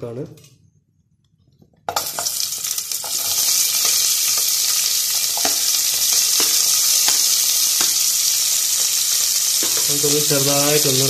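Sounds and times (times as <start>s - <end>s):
onions sizzling in hot oil: 1.9s - 11.0s.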